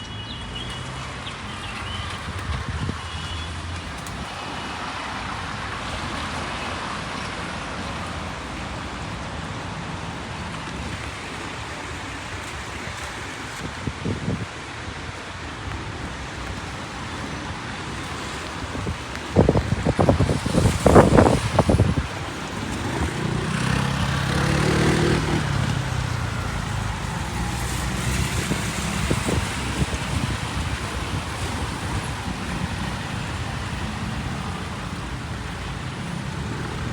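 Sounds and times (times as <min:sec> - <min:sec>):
traffic on wet road: 0:00.0 - 0:36.9
rain hiss: 0:03.0 - 0:36.9.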